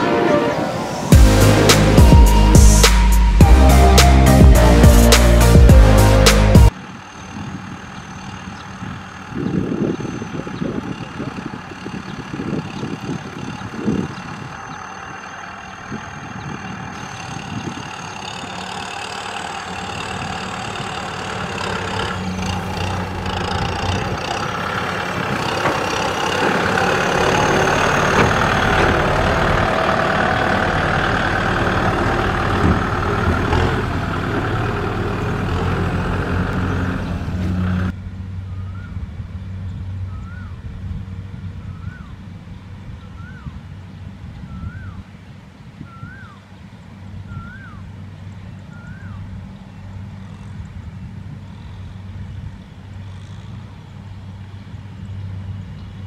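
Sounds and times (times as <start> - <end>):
tractor diesel engine running: 1.1 - 56.0.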